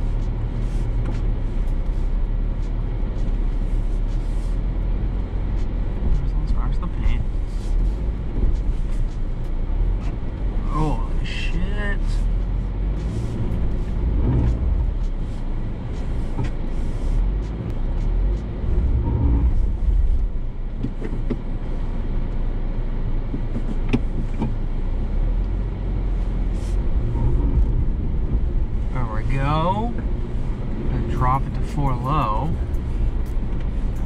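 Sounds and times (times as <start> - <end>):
engine and drivetrain rumble: 0.0 - 34.0.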